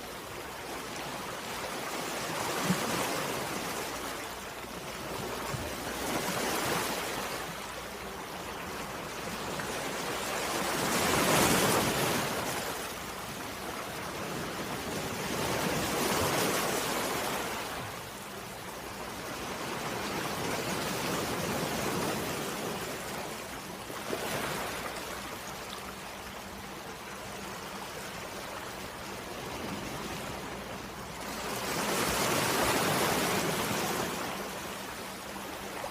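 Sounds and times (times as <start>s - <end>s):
waves lapping on a shore: 0.0s - 35.9s.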